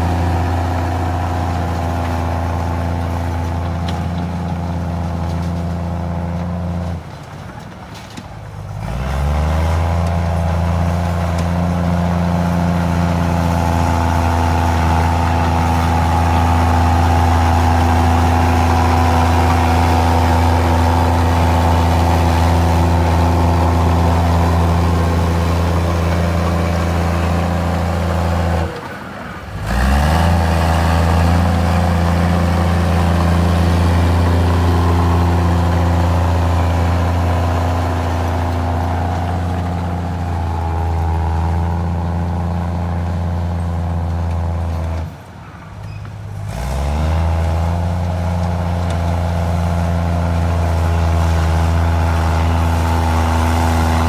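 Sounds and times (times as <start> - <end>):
bulldozer diesel engine revving: 0.0 - 7.0, 8.7 - 45.2, 46.1 - 54.0.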